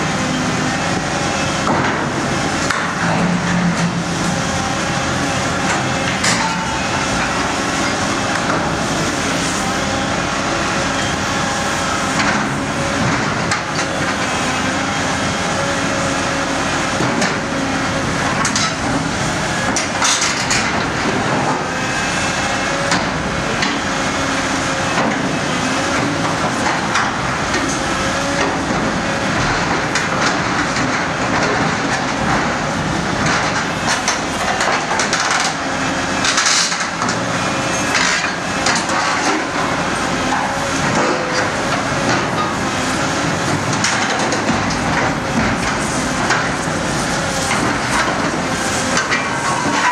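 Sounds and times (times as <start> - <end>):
excavator diesel engine and hydraulics: 0.0 - 49.9.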